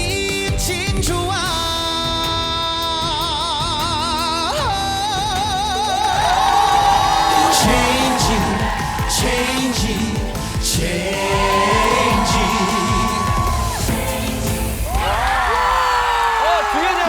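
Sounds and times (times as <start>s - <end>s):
trot song with band: 0.0s - 17.0s.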